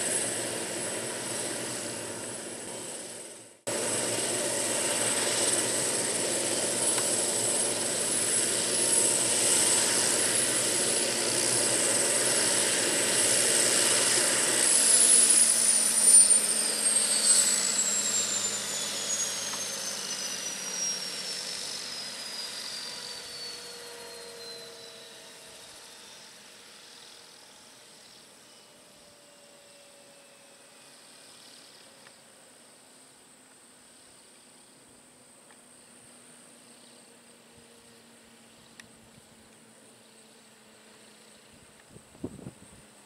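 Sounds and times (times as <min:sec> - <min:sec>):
helicopter rotor noise: 0:00.0 - 0:43.0
helicopter turbine whine: 0:00.0 - 0:43.0.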